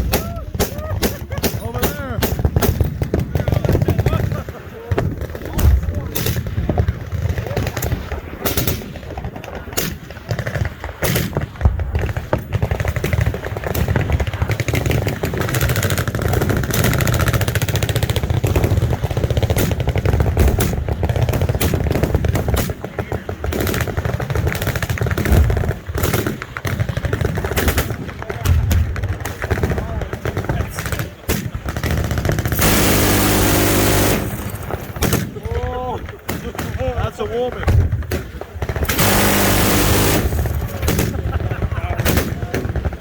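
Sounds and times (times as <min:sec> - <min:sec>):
machine-gun fire: 0:00.0 - 0:43.0.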